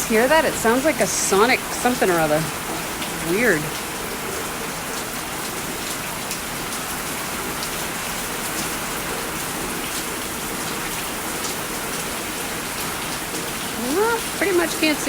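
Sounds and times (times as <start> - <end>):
heavy rain pouring: 0.0 - 15.0
rain drops ticking: 0.0 - 15.0.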